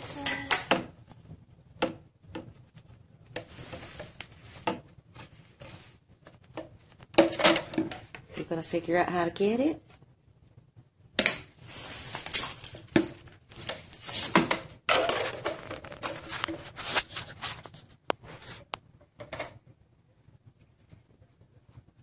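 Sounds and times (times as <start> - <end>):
rustling and scraping handling noise: 0.0 - 8.8, 11.5 - 22.0.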